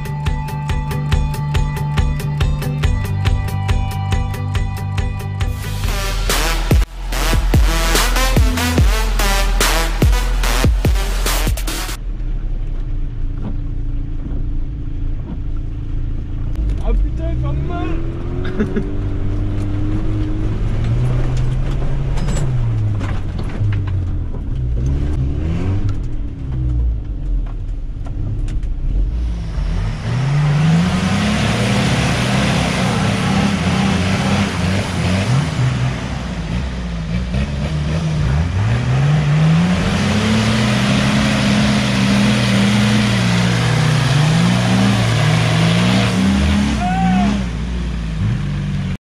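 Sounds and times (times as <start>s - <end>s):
off-road engines revving outside: 5.5s - 49.0s.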